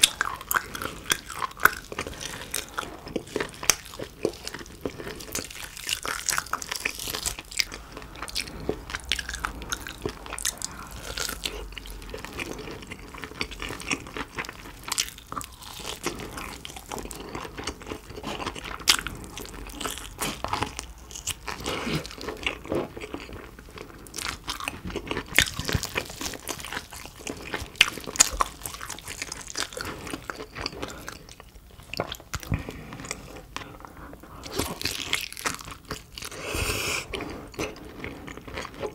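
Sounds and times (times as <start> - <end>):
crunchy bites and wet chewing: 0.0 - 33.2.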